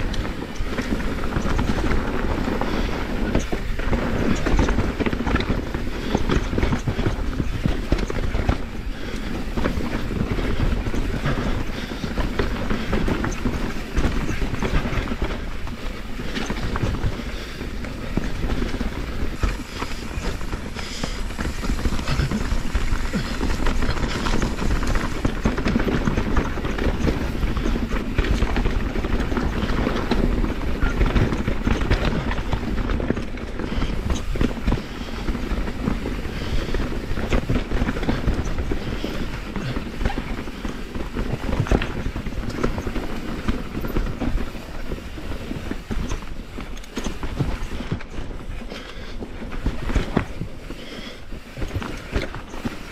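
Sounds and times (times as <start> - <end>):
chain and frame rattling: 0.0 - 52.9
tyres clattering over rocks: 0.0 - 52.9
wind rumbling on microphone: 0.0 - 52.9.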